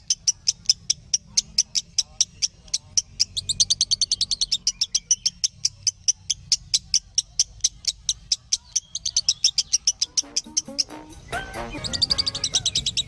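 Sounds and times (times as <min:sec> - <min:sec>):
lovebird fast high chirps: 0:00.0 - 0:13.0.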